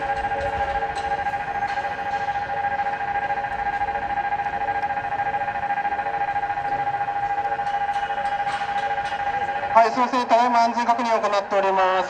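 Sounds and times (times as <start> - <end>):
level crossing warning bell ringing: 0.0 - 12.0.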